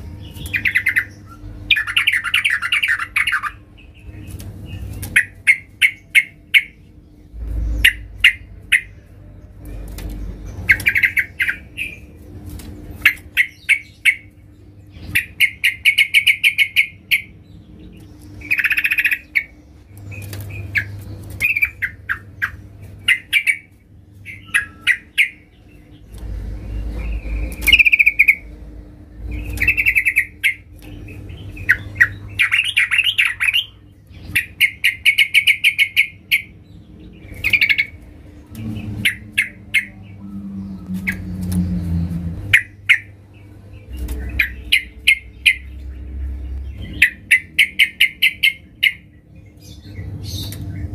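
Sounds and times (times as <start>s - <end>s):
bird chattering calls: 0.2s - 6.8s, 10.6s - 12.1s, 13.0s - 17.4s, 18.0s - 26.0s, 26.7s - 28.5s, 29.3s - 36.6s, 37.2s - 38.0s, 38.6s - 43.2s, 44.0s - 46.1s, 46.7s - 50.9s.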